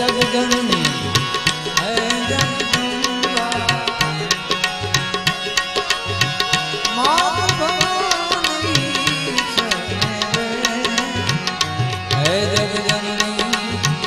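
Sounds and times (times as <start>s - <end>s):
harmoniums holding notes: 0.0s - 14.0s.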